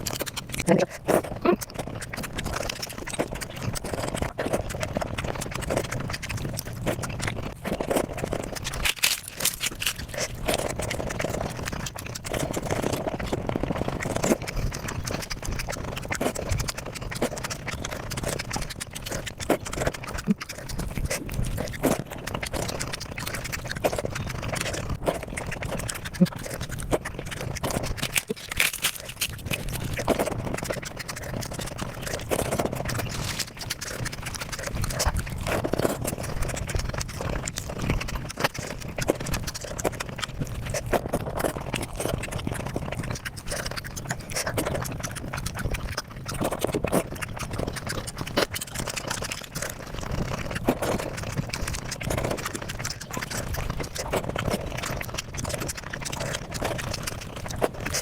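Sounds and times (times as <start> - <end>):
fast chewing and crunching: 0.0 - 58.0.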